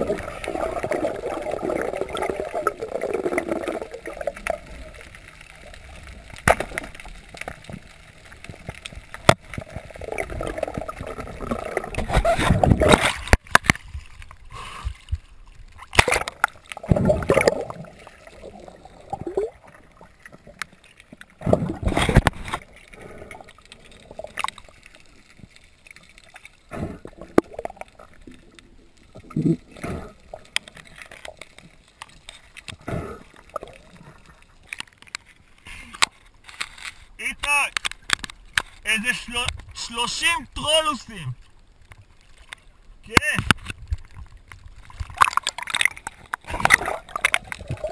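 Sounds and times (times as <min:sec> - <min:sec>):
water gurgling and sloshing: 0:00.0 - 0:40.6, 0:41.3 - 0:47.9.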